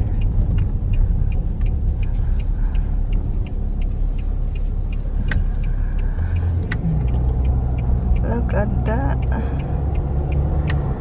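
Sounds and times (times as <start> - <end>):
car road noise rumble: 0.0 - 11.0
light regular ticking: 0.0 - 11.0.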